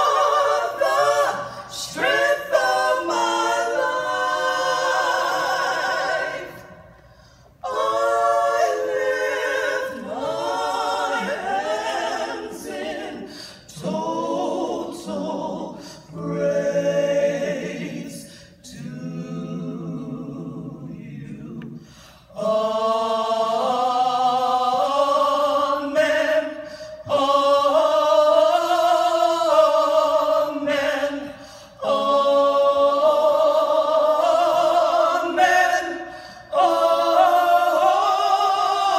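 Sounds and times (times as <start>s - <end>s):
women singing a cappella: 0.0s - 38.9s.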